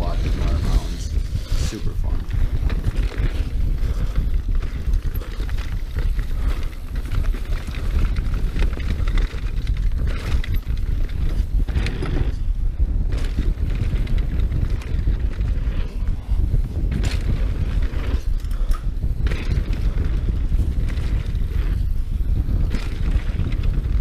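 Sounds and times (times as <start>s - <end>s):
mountain bike rattle and tyre noise: 0.0s - 24.0s
wind buffeting microphone: 0.0s - 24.0s.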